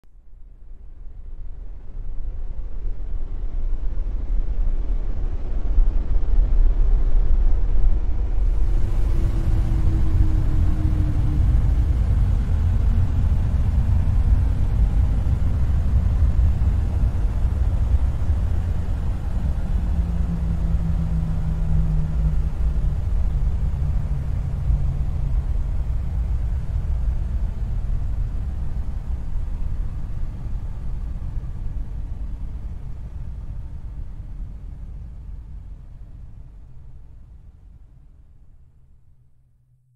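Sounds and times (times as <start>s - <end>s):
low ambient rumble: 0.0s - 39.7s
faint hums: 0.2s - 39.4s.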